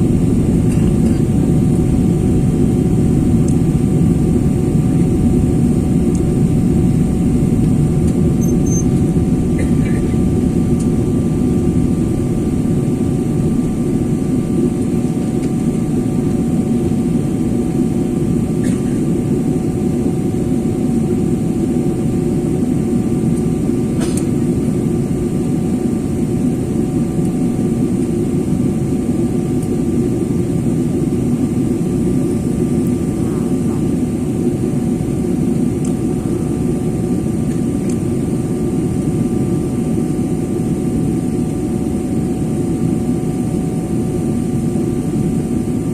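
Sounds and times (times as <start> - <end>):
jet airliner cabin rumble: 0.0 - 45.9.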